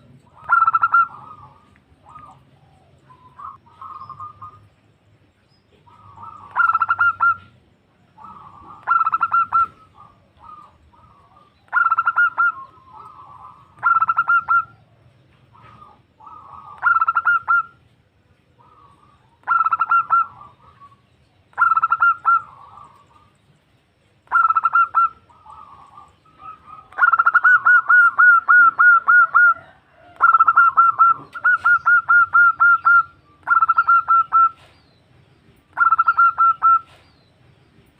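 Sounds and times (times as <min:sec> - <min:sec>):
dove cooing: 0:00.0 - 0:04.8, 0:05.7 - 0:23.4, 0:24.2 - 0:34.8, 0:35.7 - 0:37.1.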